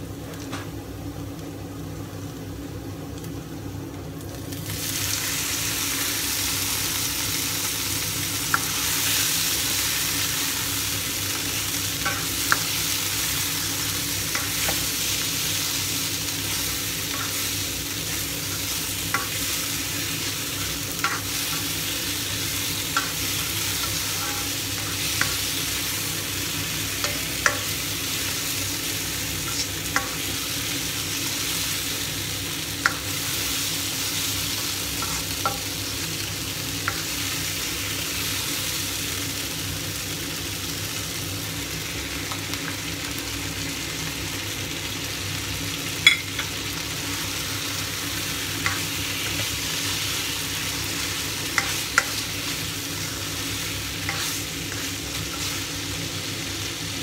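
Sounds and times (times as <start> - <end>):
eggplant sizzling in a wok: 0.0 - 57.0.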